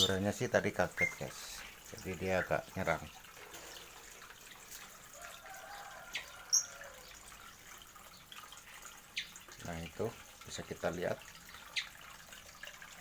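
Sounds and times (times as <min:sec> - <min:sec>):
trickle of running water: 0:00.0 - 0:13.0.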